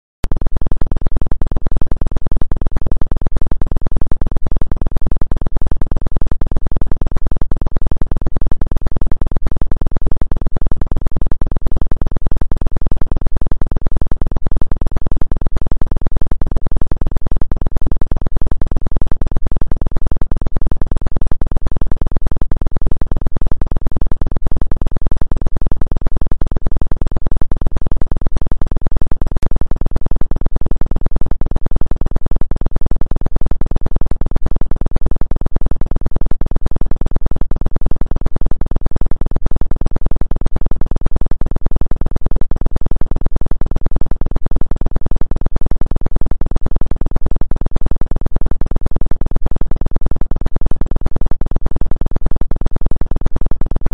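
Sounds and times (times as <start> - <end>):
pulsing synthesized bass drone: 0.2 - 53.9.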